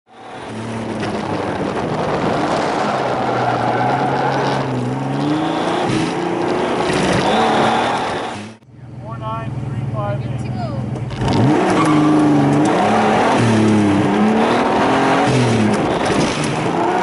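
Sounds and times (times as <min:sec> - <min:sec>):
turbocharged car engine revving: 0:00.1 - 0:08.7, 0:09.4 - 0:17.0.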